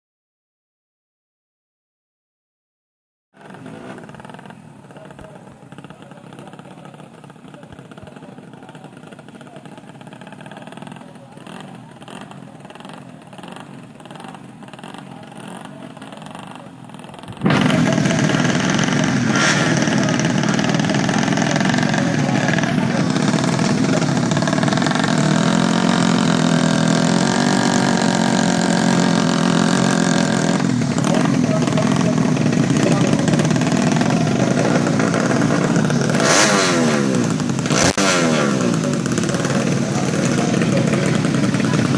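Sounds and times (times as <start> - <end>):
motorcycle engine running: 3.4 - 41.9.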